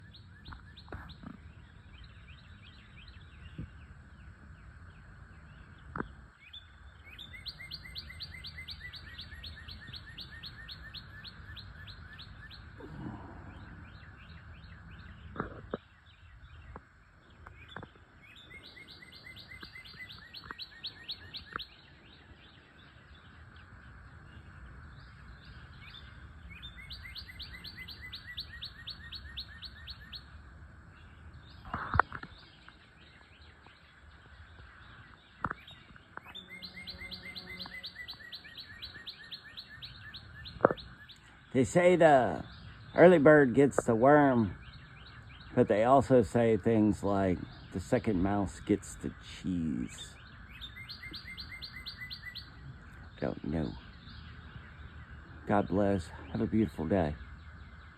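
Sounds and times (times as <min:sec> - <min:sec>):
birds chirping: 0:00.0 - 0:57.9
songbird fast trill: 0:00.0 - 0:57.9.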